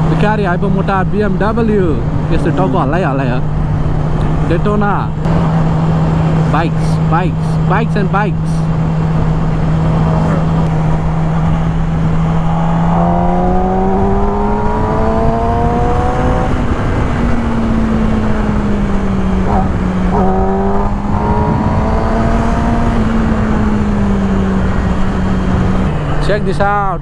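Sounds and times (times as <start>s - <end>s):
heavy wind noise: 0.0s - 27.0s
motorcycle accelerating: 0.0s - 27.0s
motorcycle engine running: 0.0s - 27.0s.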